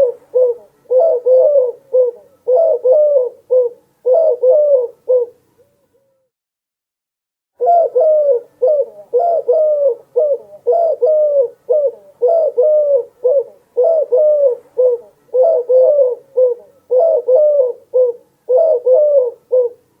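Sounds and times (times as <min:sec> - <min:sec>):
dove cooing: 0:00.0 - 0:06.1, 0:07.6 - 0:20.0.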